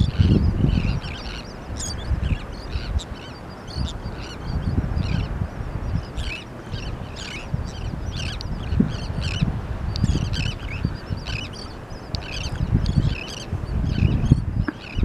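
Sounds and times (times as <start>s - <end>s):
seabirds calling harshly: 0.0s - 15.0s.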